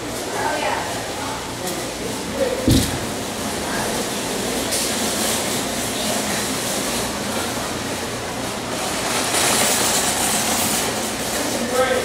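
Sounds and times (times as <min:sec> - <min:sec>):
steady rumbling background noise: 0:00.0 - 0:12.0.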